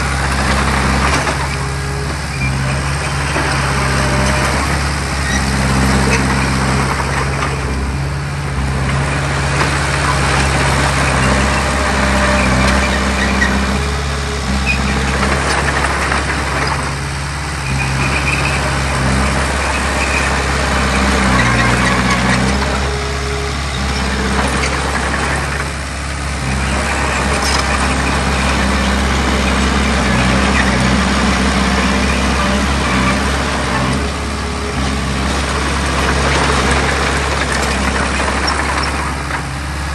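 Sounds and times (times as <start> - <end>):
heavy diesel machinery engine: 0.0 - 39.9
rough grinding noise: 0.0 - 39.9.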